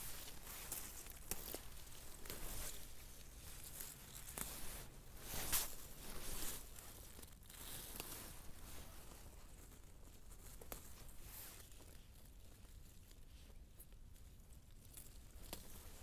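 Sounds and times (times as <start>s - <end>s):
plants rustling: 0.0s - 13.4s.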